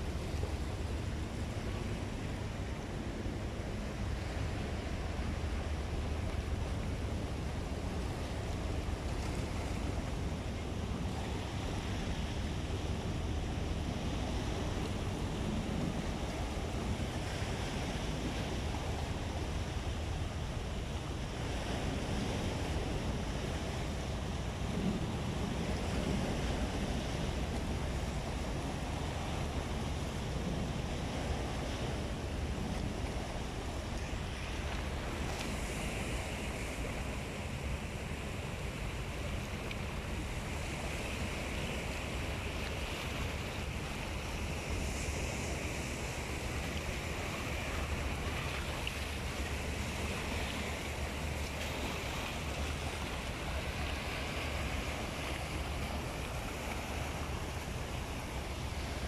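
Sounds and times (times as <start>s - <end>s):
waves splashing over rocks: 0.0s - 59.0s.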